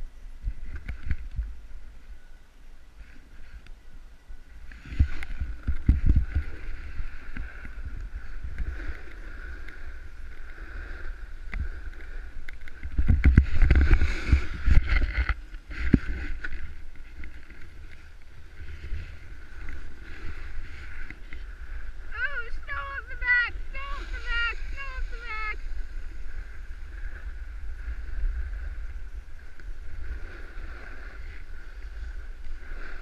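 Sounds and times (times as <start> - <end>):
wind rumbling on microphone: 0.0 - 33.0
snowboard scraping over snow: 4.6 - 33.0.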